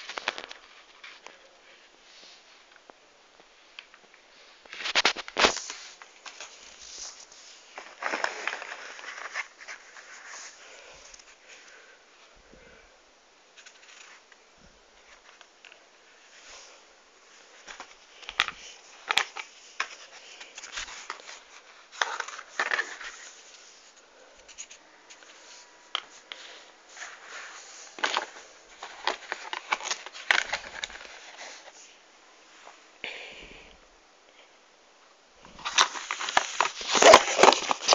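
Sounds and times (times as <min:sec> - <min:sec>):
mask rustling and crackling: 0:00.0 - 0:02.9, 0:03.8 - 0:12.3, 0:13.5 - 0:32.0, 0:35.4 - 0:37.9.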